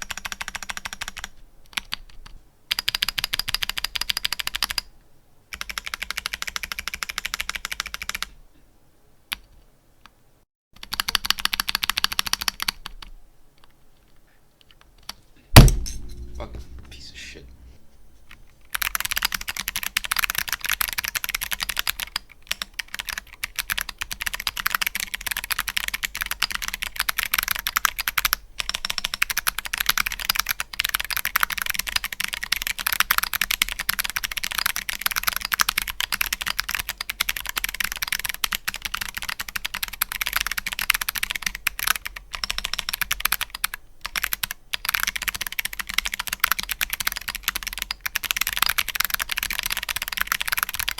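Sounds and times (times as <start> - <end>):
mechanical keyboard typing: 0.0 - 4.8, 5.6 - 8.3, 10.8 - 13.1, 18.8 - 50.9.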